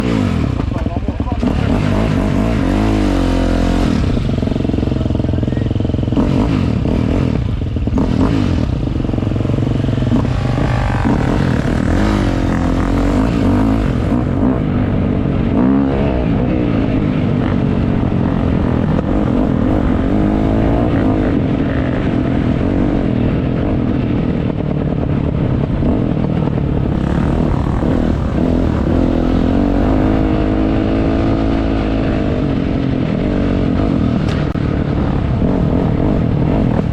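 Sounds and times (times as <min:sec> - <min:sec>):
dirt bike engine revving: 0:00.0 - 0:23.7, 0:25.9 - 0:36.9.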